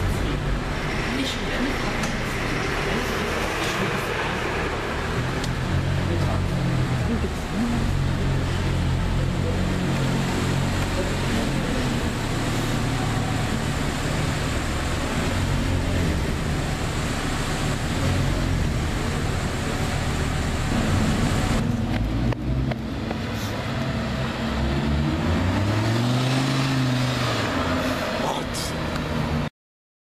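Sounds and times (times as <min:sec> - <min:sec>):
car engine running at low revs: 0:00.0 - 0:29.5.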